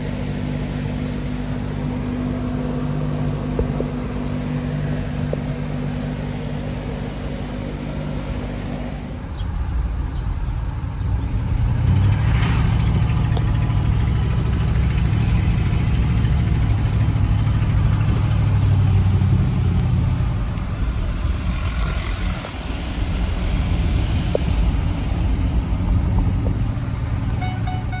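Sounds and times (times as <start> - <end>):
pickup truck engine running: 0.0 - 28.0.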